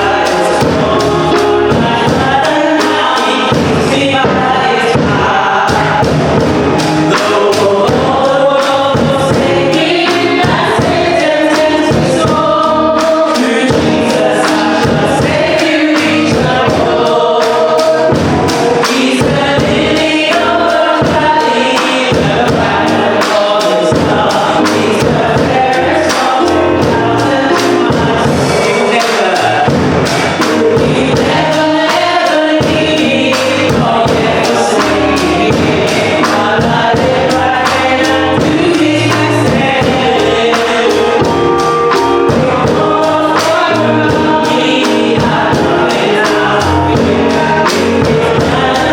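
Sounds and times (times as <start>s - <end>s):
group singing gospel music: 0.0s - 48.9s.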